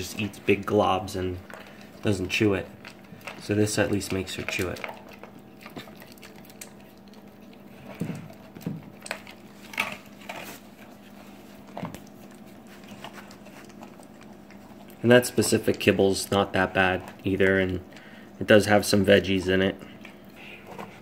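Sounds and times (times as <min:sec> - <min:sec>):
dog chewing and smacking: 0:00.0 - 0:21.0
faint steady hum: 0:00.0 - 0:21.0.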